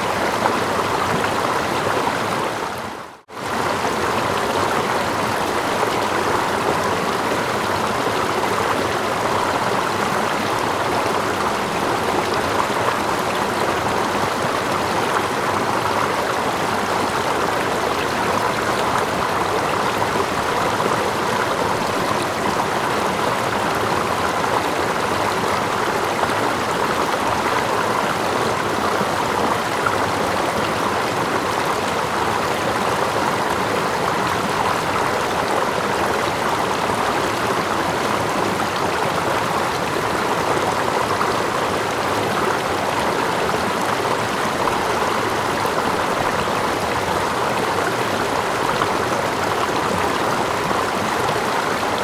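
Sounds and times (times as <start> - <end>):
small waterfall cascading: 0.0 - 52.0
stream water rushing: 0.0 - 52.0.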